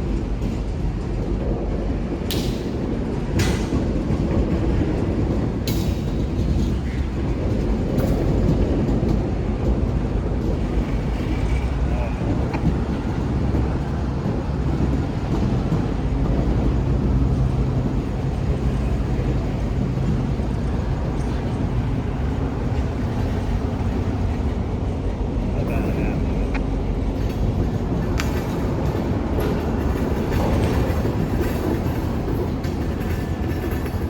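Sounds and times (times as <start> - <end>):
engine low rumble: 0.0 - 34.0.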